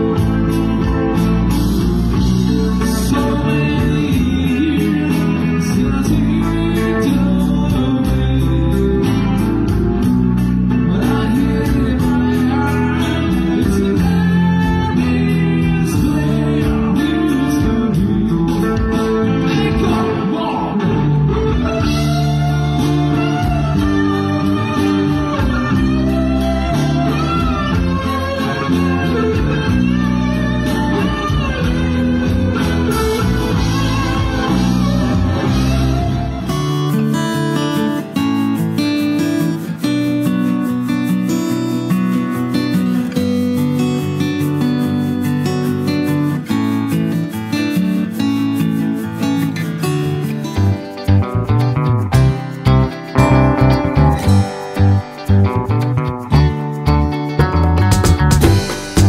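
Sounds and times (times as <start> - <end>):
song with voice and guitar: 0.0 - 59.0.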